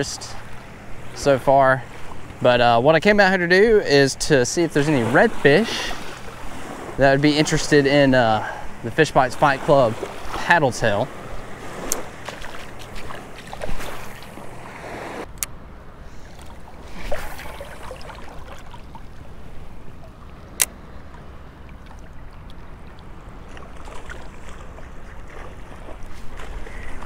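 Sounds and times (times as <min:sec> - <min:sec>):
surf water lapping and sloshing: 0:00.0 - 0:27.0.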